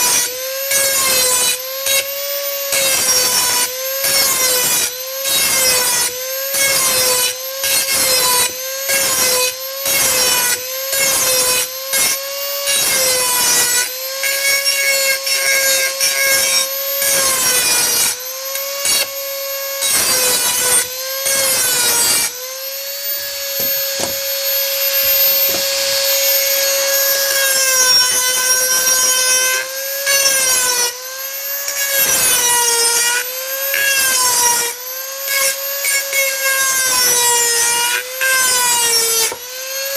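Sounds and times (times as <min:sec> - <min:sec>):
rotary tool grinding: 0:02.8 - 0:35.6.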